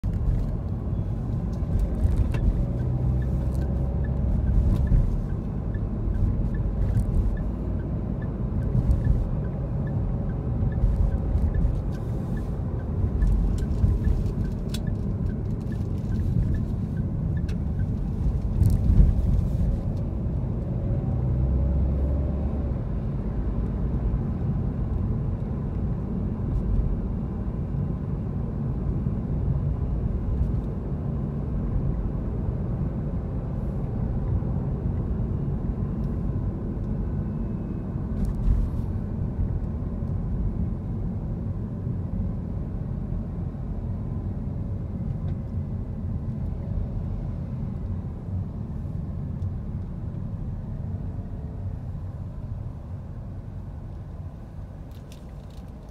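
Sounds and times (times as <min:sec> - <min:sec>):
car engine and tyre rumble: 0:00.0 - 0:55.9.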